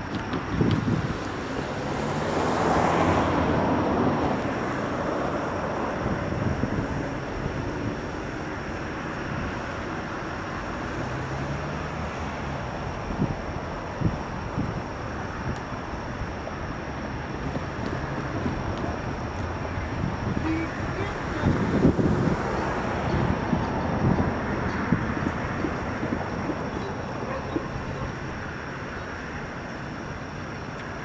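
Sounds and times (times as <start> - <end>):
distant engine rumble: 0.0 - 31.0
wind noise: 0.0 - 31.0.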